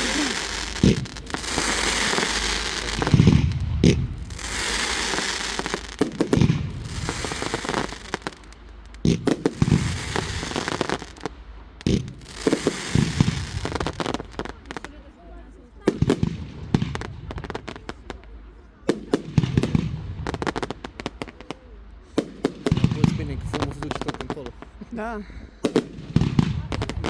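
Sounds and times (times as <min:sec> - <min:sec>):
fireworks banging: 0:00.0 - 0:15.0, 0:15.8 - 0:27.0
fireworks crackling: 0:00.0 - 0:27.0.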